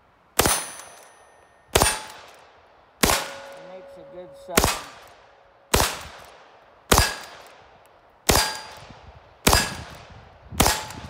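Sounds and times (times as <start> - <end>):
rifle shots with echo: 0.4 - 7.7, 8.3 - 11.0.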